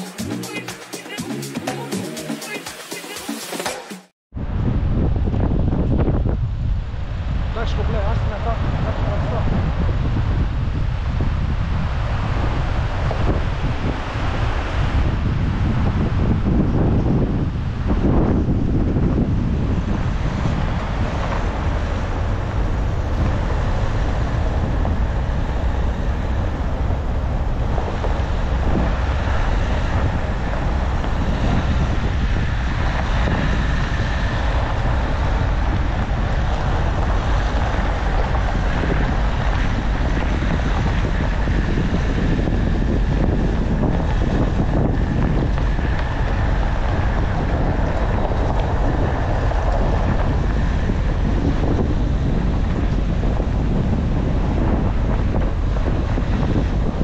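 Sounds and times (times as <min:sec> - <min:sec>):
wind buffeting microphone: 0:04.3 - 0:57.0
car driving: 0:04.4 - 0:57.0.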